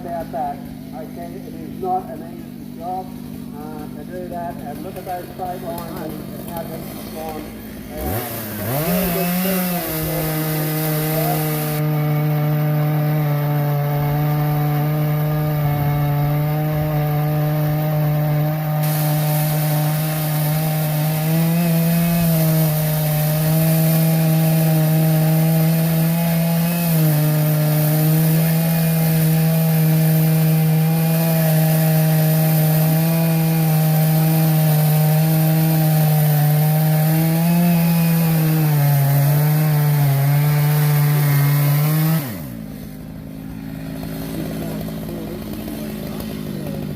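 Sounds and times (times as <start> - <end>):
engine saw cutting wood: 0.0 - 46.9.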